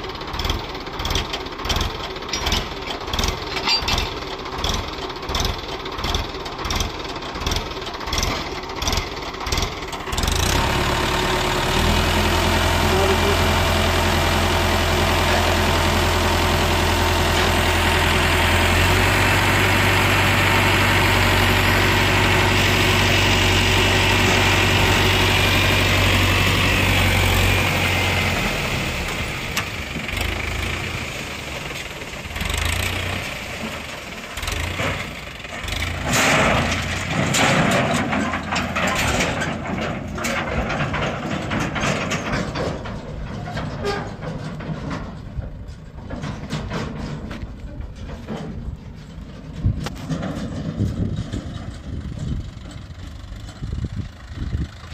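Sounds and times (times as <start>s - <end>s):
tractor diesel engine: 0.0s - 54.9s.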